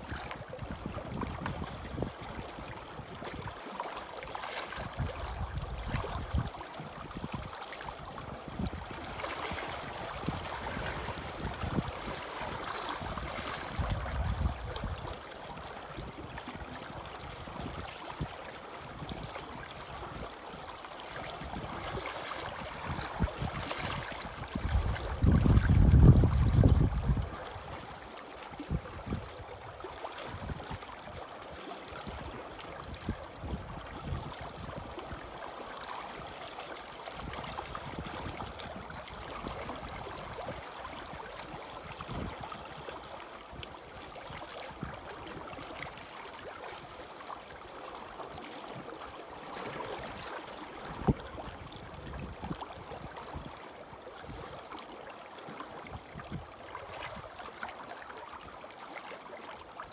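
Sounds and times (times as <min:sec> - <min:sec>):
small waves lapping against rocks: 0:00.0 - 0:59.9.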